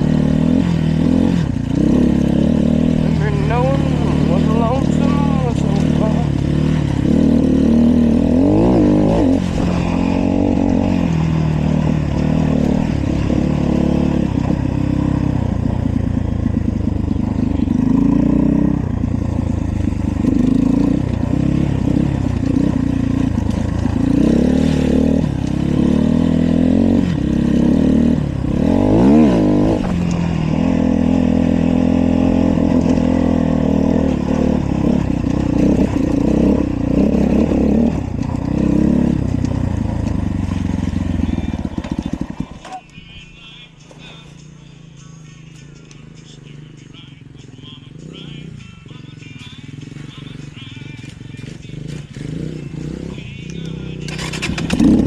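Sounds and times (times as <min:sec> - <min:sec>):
dirt bike engine revving: 0:00.0 - 0:42.8, 0:44.1 - 0:55.0.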